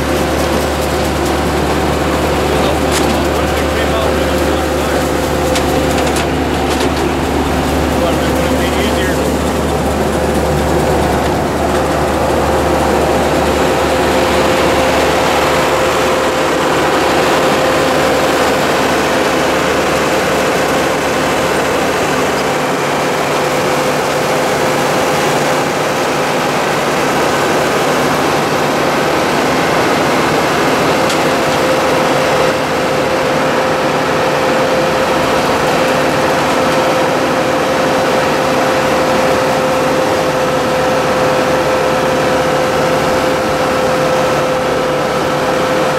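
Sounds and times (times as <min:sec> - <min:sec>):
harvesting machinery din: 0:00.0 - 0:45.9
steady machine whine: 0:00.0 - 0:45.9.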